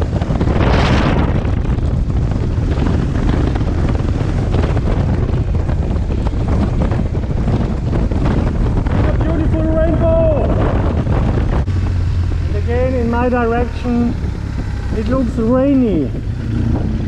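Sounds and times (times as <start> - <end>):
low rumble: 0.0 - 17.0
wind rushing over microphone: 0.0 - 17.0.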